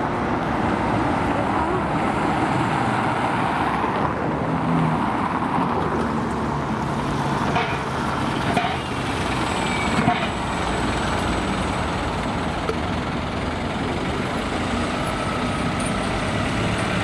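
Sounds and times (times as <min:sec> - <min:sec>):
bus engine hum: 0:00.0 - 0:17.0
tyre and road noise: 0:00.0 - 0:17.0.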